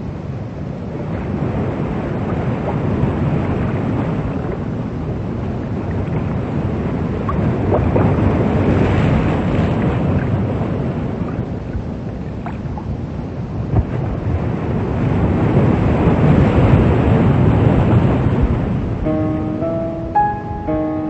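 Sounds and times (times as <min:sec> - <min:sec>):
rushing wind and water: 0:00.0 - 0:21.0.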